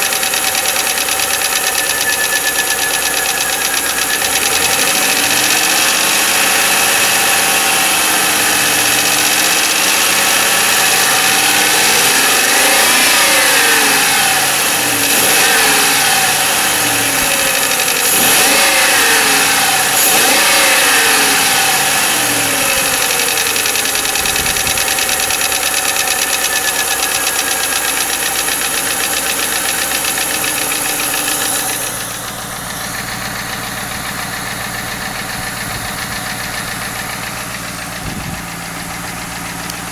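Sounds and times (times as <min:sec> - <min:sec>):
car engine revving: 0:00.0 - 0:39.9
engine tapping and knocking: 0:00.0 - 0:39.9.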